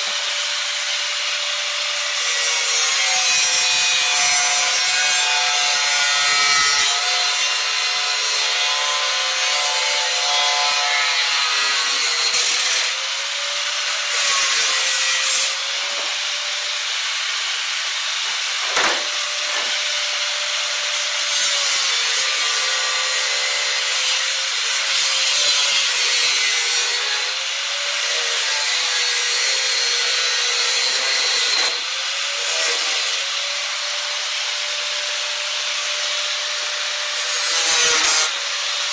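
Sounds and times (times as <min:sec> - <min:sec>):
angle grinder cutting sheet metal: 0:00.0 - 0:38.9.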